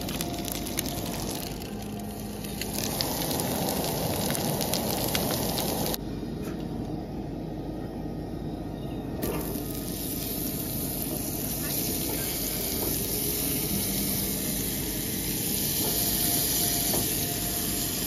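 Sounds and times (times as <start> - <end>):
hot oil sizzling with pops: 0.0 - 6.0, 9.4 - 18.0.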